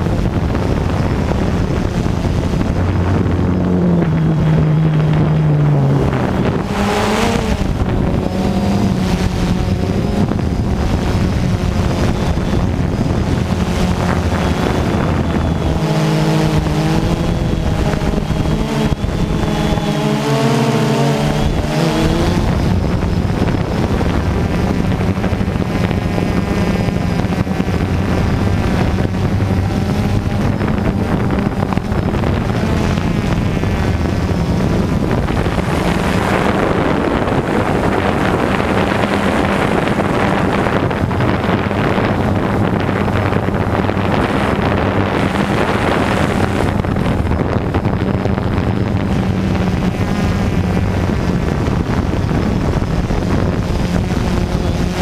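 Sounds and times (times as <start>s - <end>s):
drone propellers humming: 0.0s - 55.0s
wind noise on microphone: 0.0s - 55.0s.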